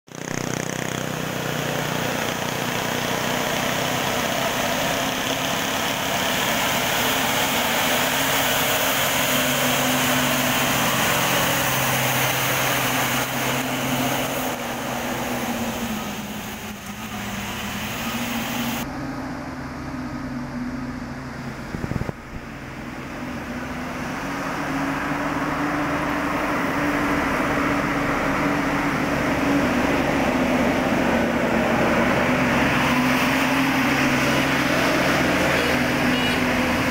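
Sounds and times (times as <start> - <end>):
diesel truck engines labouring uphill: 0.1 - 36.9
tyres hissing on wet road: 0.1 - 36.9.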